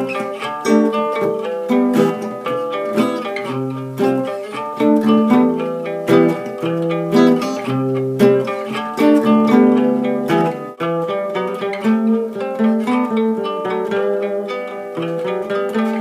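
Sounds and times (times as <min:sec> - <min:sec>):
acoustic guitar picked: 0:00.0 - 0:16.0.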